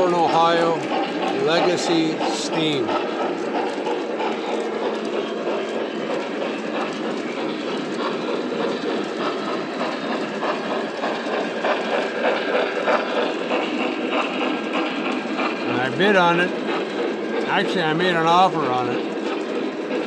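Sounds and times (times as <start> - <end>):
model train wheels and motors: 0.0 - 20.0
wheels clicking over rail joints: 0.0 - 20.0.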